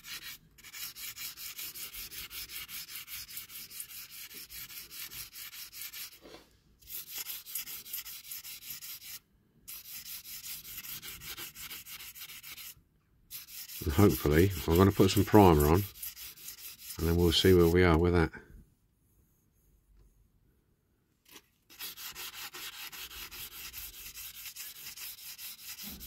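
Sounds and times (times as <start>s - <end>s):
sandpaper scratching metal: 0.0s - 6.2s, 6.9s - 18.0s, 21.3s - 26.0s.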